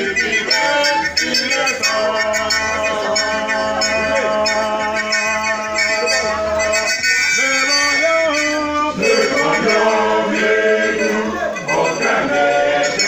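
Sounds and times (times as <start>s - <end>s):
church choir singing: 0.0s - 6.8s, 8.9s - 13.0s.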